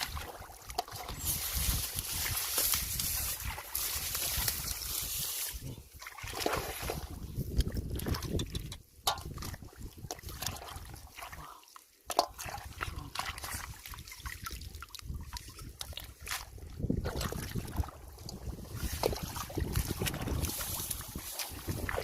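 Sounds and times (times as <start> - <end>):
small splashes and clicks: 0.0 - 22.0
water sloshing and trickling: 0.0 - 22.0.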